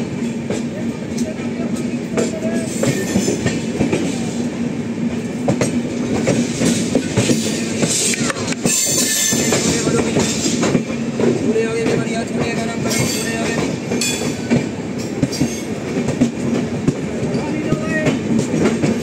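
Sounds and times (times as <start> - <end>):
train rail rumble: 0.0 - 19.0.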